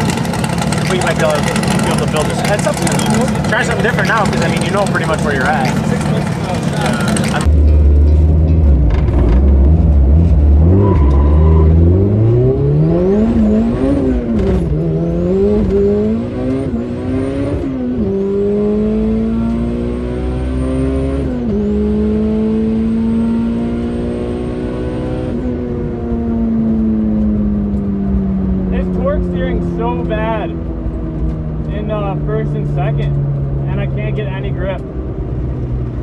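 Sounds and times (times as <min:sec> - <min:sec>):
car engine revving and accelerating: 0:00.0 - 0:36.0.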